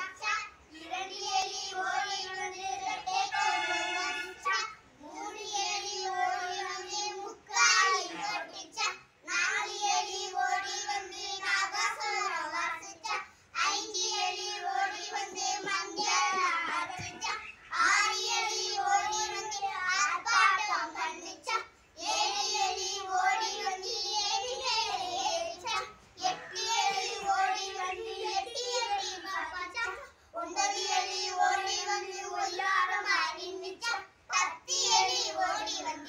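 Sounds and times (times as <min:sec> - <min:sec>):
young children singing: 0:00.0 - 0:36.0.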